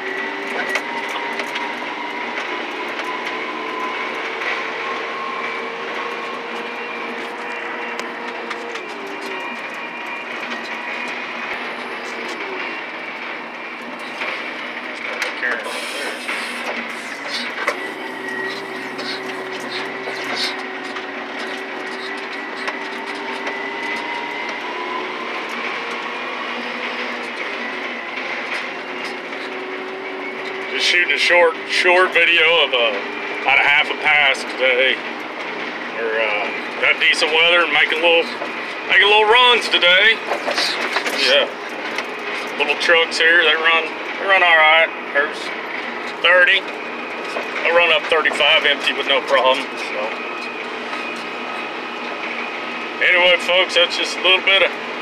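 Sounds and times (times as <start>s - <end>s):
dump truck diesel engine whine: 0.0s - 55.0s.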